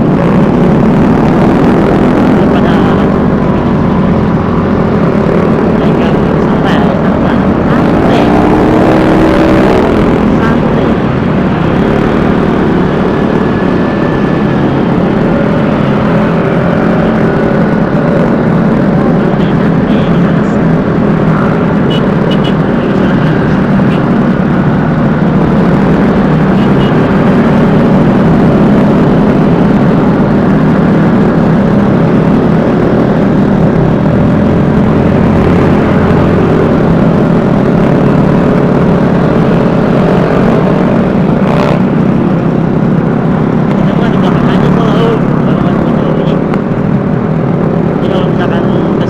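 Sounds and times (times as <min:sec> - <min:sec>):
road and wind rush: 0:00.0 - 0:49.0
scooter engine hum: 0:00.0 - 0:49.0.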